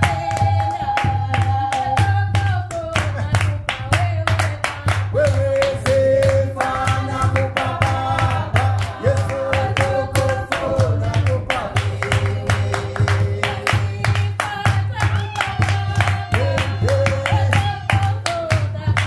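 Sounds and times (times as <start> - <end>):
group singing unaccompanied: 0.0 - 19.0
rhythmic hand clapping: 0.0 - 19.0.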